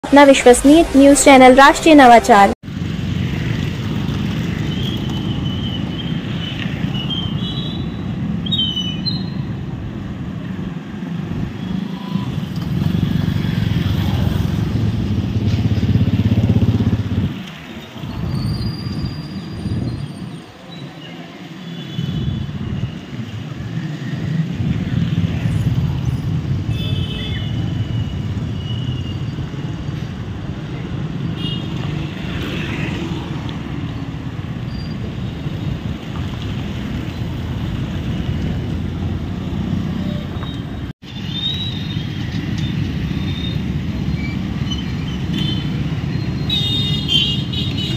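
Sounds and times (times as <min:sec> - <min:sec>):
motorcycles and scooters passing: 0:00.1 - 0:47.9.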